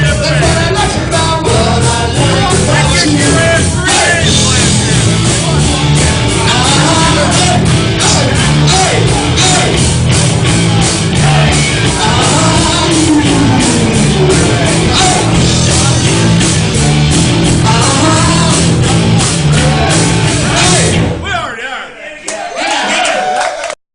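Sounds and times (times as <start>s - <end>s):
person singing: 0.0s - 9.9s, 10.5s - 16.7s, 17.5s - 21.1s
live rock band playing: 0.0s - 21.2s
driving drum beat: 0.0s - 21.3s.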